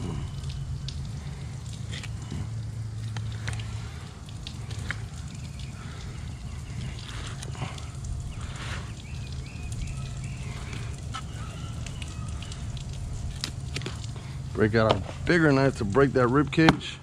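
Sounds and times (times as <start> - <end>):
birds chirping: 0.0 - 16.4
steady low hum: 0.0 - 17.0.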